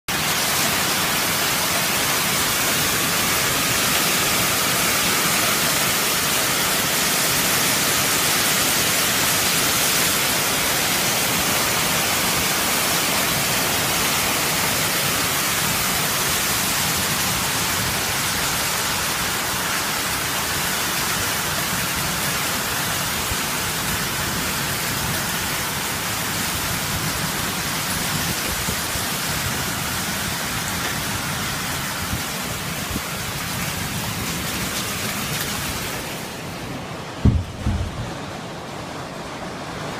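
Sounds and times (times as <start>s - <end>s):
hail and heavy rain: 0.1s - 39.9s
strong wind: 0.1s - 39.9s.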